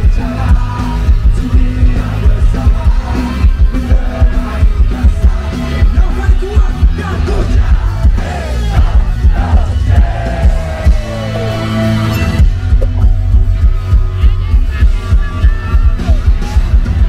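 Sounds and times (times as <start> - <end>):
pounding drum beat: 0.0 - 11.6, 12.4 - 17.0
bass guitar: 0.0 - 17.0.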